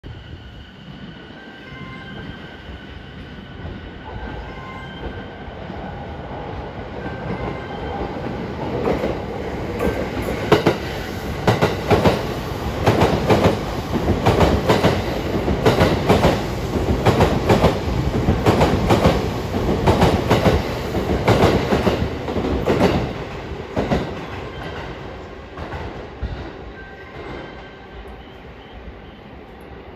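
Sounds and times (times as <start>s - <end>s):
train rumble: 0.0s - 29.9s.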